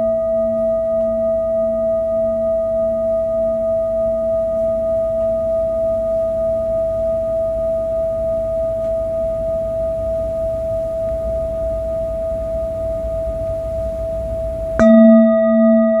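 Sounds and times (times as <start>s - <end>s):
metal singing bowl ringing: 0.0s - 16.0s.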